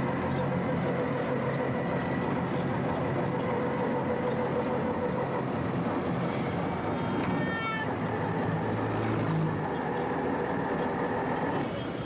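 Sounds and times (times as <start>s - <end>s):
auto-rickshaw engine running: 0.0s - 12.0s.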